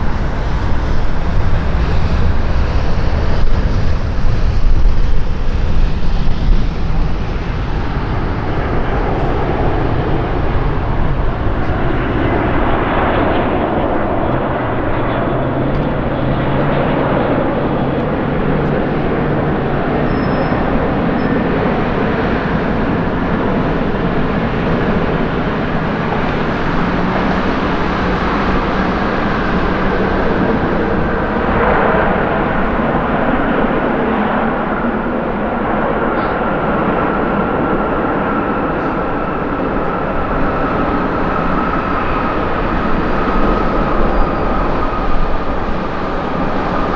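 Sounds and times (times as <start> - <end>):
jet engines roaring: 0.0 - 46.9.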